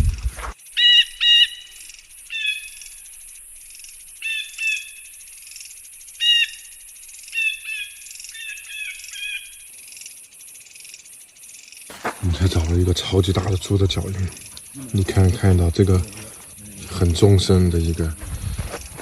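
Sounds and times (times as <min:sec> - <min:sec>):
bird calls: 0:00.0 - 0:19.0
high insect hiss: 0:00.0 - 0:19.0.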